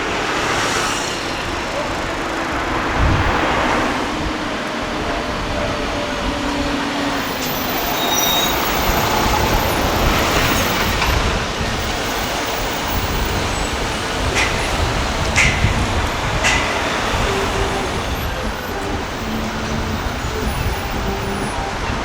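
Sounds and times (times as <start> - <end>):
traffic passing on street: 0.0 - 22.0.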